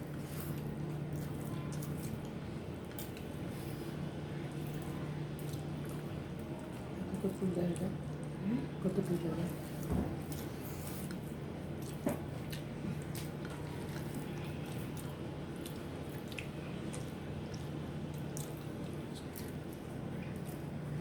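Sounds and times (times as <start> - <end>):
steady low hum: 0.0 - 21.0
wet chewing squishes: 0.0 - 21.0.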